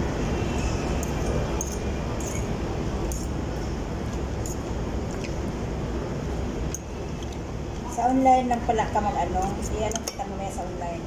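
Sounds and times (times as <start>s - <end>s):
restaurant room rumble: 0.0s - 11.0s.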